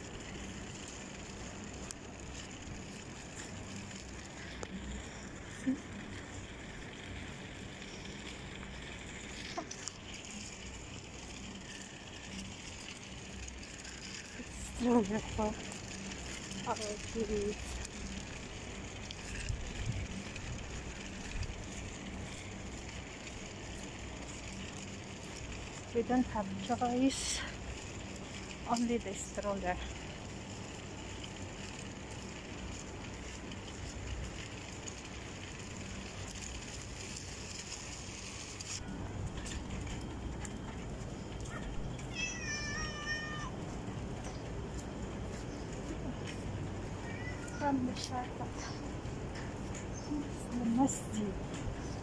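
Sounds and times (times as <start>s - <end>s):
outdoor rumble and hiss: 0.0s - 52.0s
street noise: 0.0s - 52.0s.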